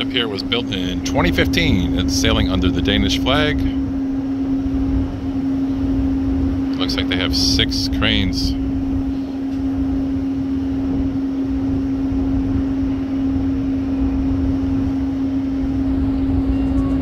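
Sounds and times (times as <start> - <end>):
low rumble: 0.0 - 17.0
ship machinery hum: 0.0 - 17.0.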